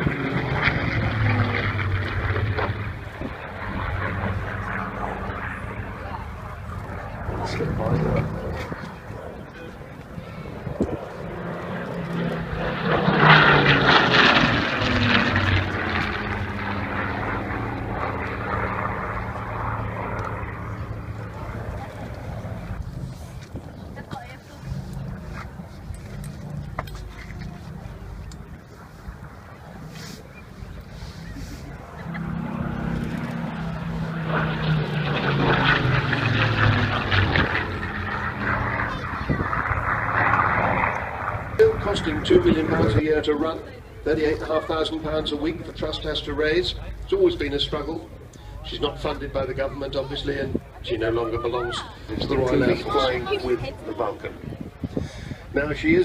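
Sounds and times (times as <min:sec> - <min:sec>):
propeller plane engine passing: 0:00.0 - 0:56.0.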